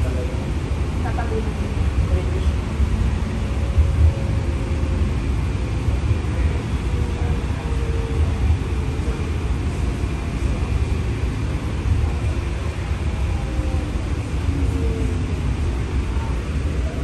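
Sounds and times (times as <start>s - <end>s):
streetcar running gear rumble: 0.0s - 17.0s.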